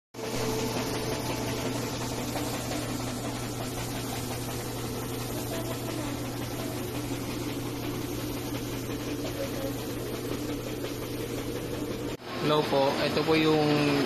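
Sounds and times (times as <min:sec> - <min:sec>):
printer fans and motors humming: 0:00.2 - 0:14.0.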